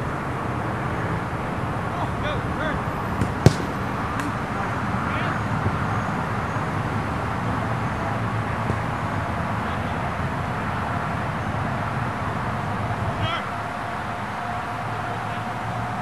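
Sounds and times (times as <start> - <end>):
distant shouts from players: 1.8 - 16.0.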